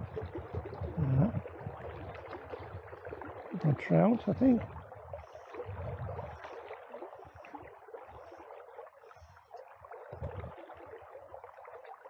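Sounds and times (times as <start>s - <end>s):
river water gurgling: 0.0s - 12.0s.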